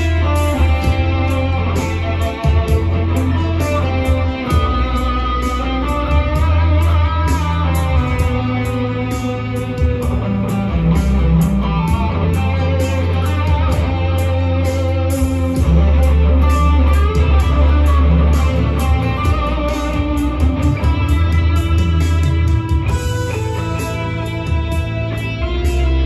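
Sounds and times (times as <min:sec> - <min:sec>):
electric guitar melody: 0:00.0 - 0:26.0
steady drum beat: 0:00.0 - 0:26.0
sustained bass notes: 0:00.0 - 0:26.0.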